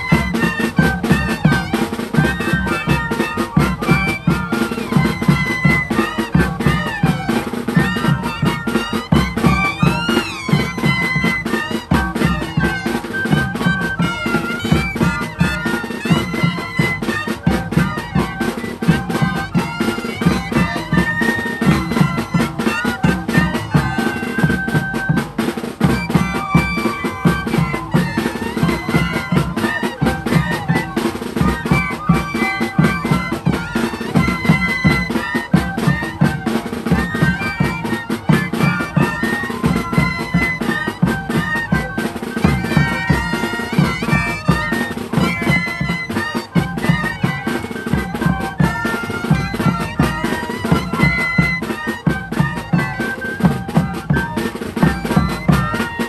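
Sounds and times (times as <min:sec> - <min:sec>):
cane flutes playing melody: 0:00.0 - 0:56.0
snare drum beat: 0:00.0 - 0:56.0.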